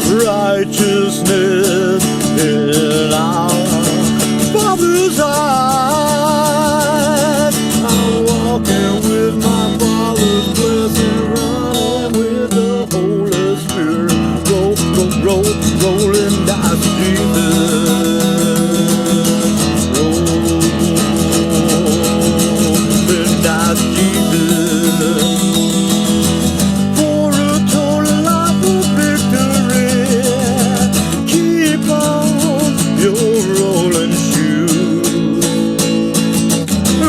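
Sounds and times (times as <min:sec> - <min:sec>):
strummed acoustic guitar: 0:00.0 - 0:37.0.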